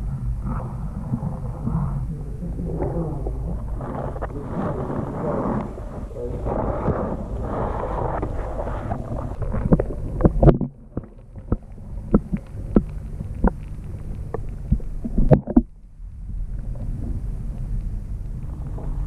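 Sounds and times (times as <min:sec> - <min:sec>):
muffled underwater hum: 0:00.0 - 0:19.0.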